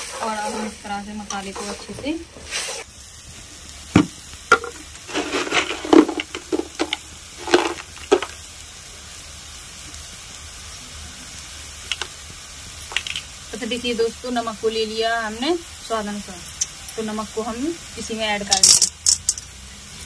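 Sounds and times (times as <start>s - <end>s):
paste sizzling in a pan: 0.0s - 20.0s.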